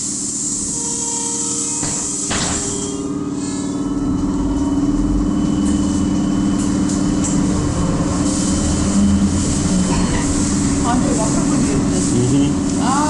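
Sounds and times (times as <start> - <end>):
electric motor hum and whine: 0.0 - 13.0.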